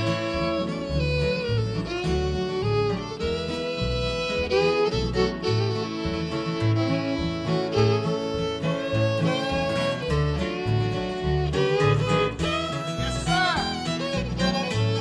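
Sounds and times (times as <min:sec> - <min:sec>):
acoustic guitar rhythm: 0:00.0 - 0:15.0
fiddle melody: 0:00.0 - 0:15.0
low bass notes: 0:00.0 - 0:15.0.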